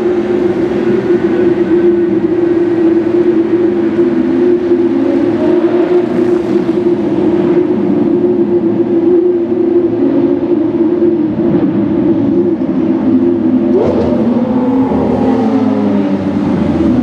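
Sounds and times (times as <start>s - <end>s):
car engine in tunnel: 0.0s - 17.0s.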